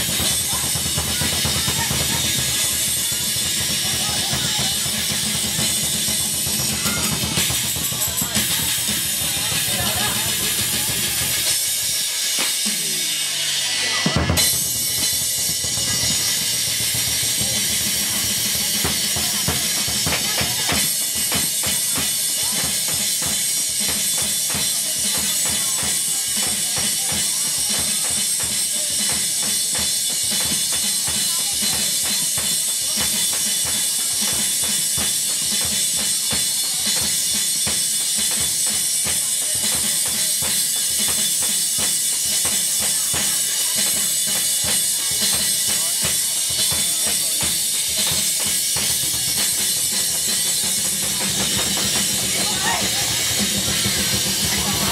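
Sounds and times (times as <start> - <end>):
barrel drum beating fast: 0.0 - 54.9
cymbals clashing: 0.0 - 54.9.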